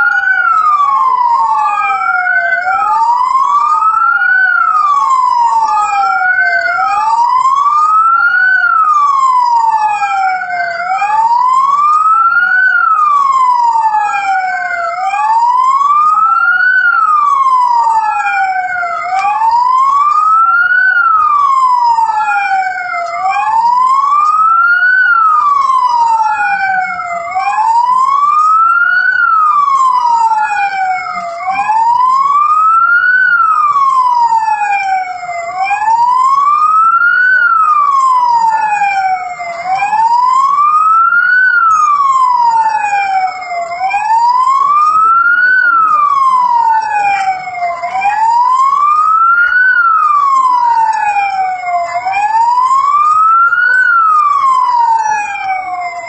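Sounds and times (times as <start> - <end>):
police siren wailing: 0.0 - 56.0.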